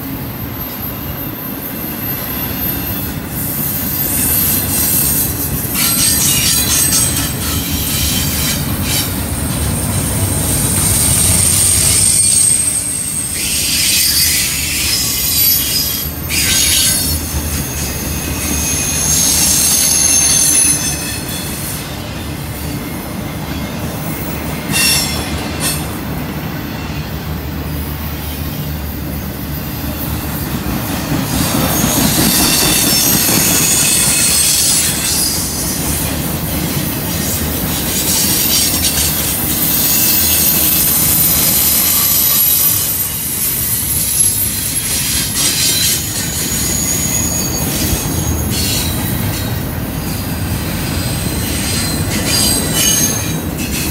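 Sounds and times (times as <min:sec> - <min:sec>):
train wheels rumbling on rail: 0:00.0 - 0:53.9
high-pitched wheel squeal: 0:00.3 - 0:09.2, 0:09.8 - 0:22.0, 0:24.0 - 0:25.8, 0:31.3 - 0:36.1, 0:37.1 - 0:50.2, 0:50.8 - 0:53.9.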